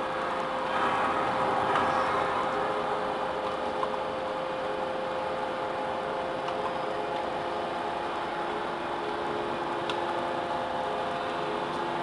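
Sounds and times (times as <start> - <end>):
low machine tone: 0.0 - 12.0
motor and pump hum with whine: 0.0 - 12.0.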